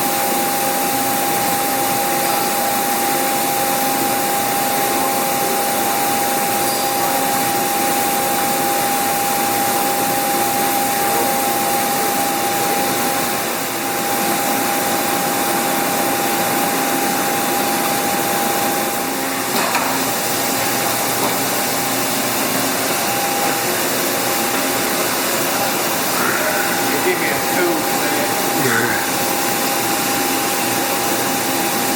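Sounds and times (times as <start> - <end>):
mill mechanical whir: 0.6 - 31.9.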